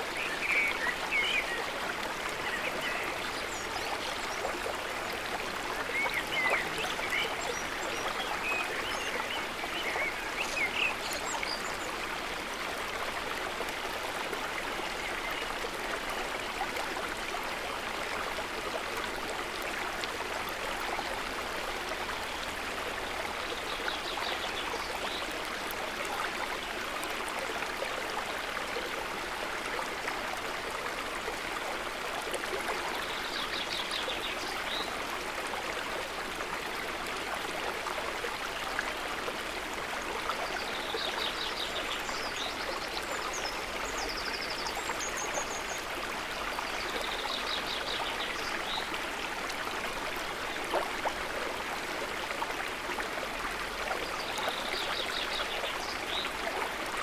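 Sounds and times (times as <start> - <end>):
river water over stones: 0.0 - 57.0.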